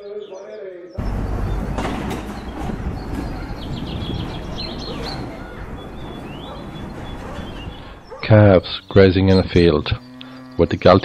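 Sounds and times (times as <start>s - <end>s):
small birds chirping: 0.0s - 11.0s
steady rushing street noise: 1.0s - 10.0s.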